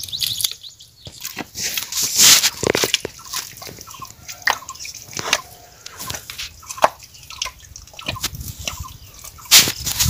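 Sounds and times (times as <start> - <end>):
footsteps squelching in mud: 0.0 - 10.0.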